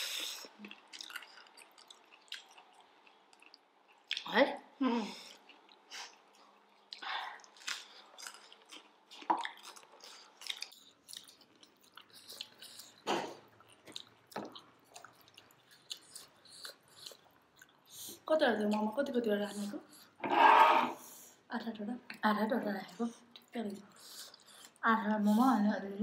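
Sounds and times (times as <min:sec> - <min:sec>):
people chewing food: 0:00.0 - 0:21.4, 0:22.1 - 0:25.7.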